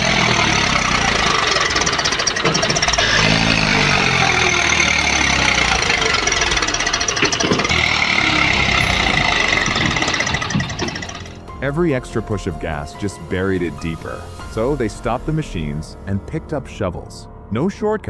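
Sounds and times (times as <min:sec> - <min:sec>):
tractor engine running hard: 0:00.0 - 0:15.6.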